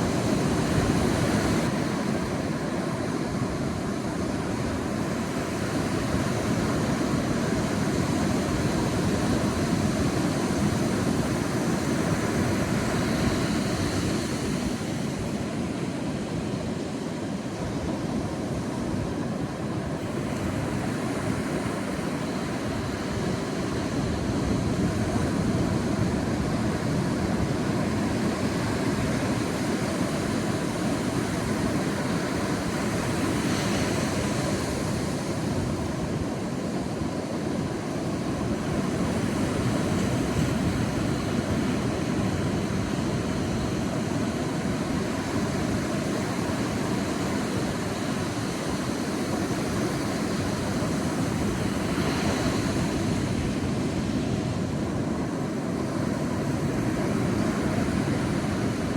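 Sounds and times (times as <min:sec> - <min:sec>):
sea waves washing onto beach: 0:00.0 - 0:58.9.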